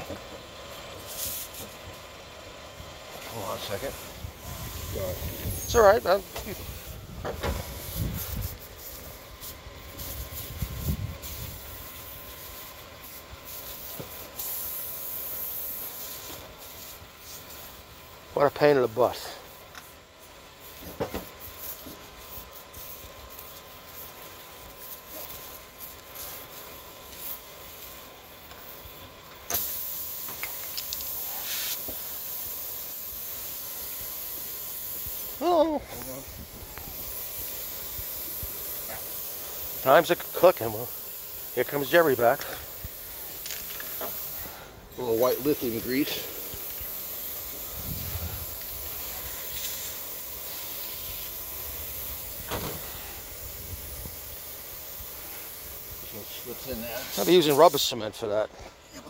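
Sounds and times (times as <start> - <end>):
air hissing out of tire: 0.4 - 58.0.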